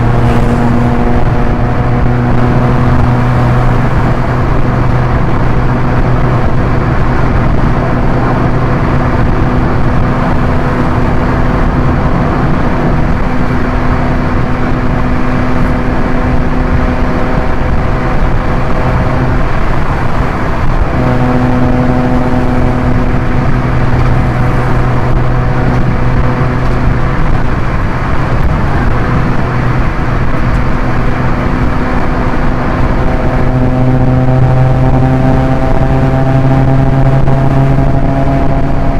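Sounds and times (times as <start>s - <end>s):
car engine drone: 0.0s - 38.9s
tyre and road noise: 0.0s - 38.9s.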